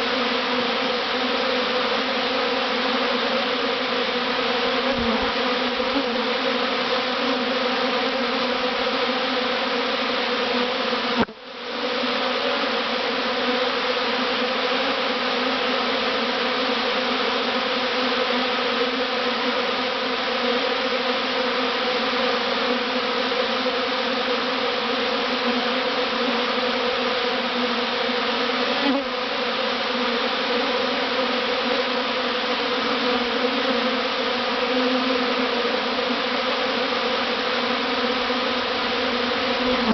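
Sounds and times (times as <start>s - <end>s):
honeybee swarm buzzing: 0.0s - 39.9s.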